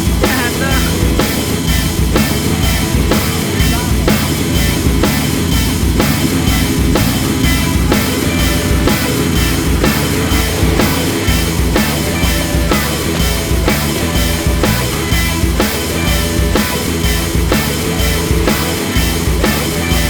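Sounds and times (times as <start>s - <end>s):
rock music with drums and guitar: 0.0s - 20.0s.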